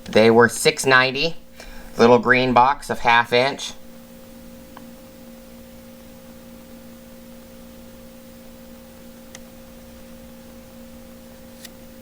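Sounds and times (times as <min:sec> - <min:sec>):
two-tone background hum: 0:00.0 - 0:12.0.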